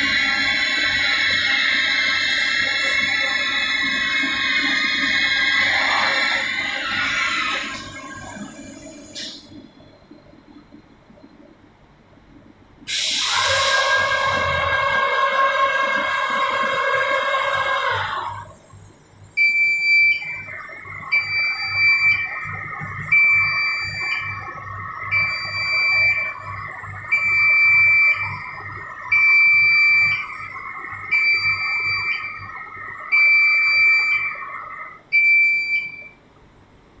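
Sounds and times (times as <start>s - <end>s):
steady machine whine: 0.0s - 11.4s, 13.1s - 35.1s.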